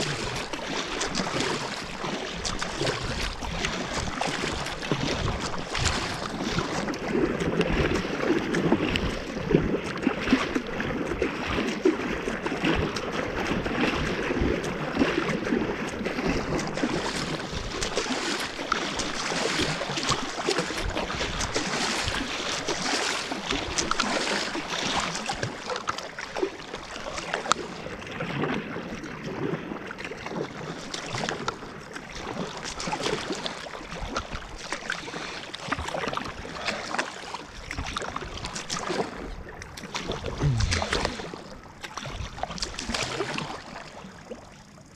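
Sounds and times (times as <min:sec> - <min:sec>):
small splashes and drips: 0:00.0 - 0:44.6
water splashing around kayak: 0:00.0 - 0:44.9.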